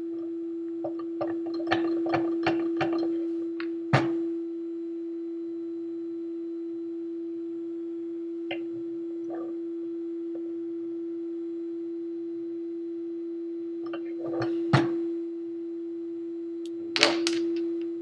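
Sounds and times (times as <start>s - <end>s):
steady humming tone: 0.0s - 18.0s.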